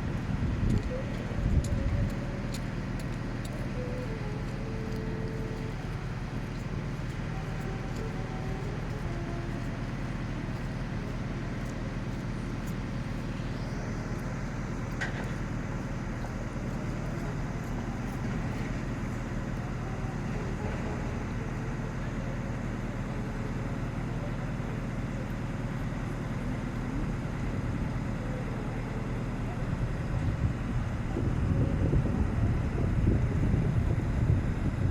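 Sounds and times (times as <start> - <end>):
city street noise: 0.0 - 34.9
heavy engine humming: 0.0 - 34.9.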